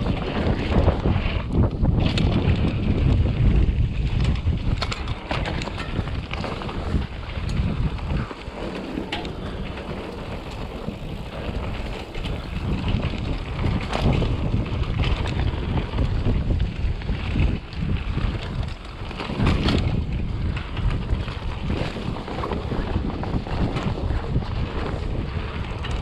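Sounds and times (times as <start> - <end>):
bike clicks and rattles: 0.0 - 26.0
wind buffeting microphone: 0.0 - 26.0.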